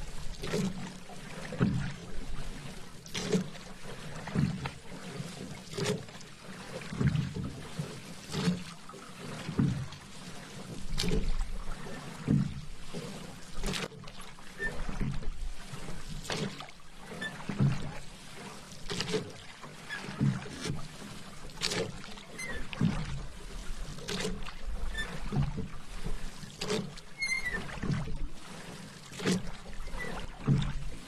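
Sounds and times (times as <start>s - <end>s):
paddle strokes splashing in water: 0.0s - 31.0s.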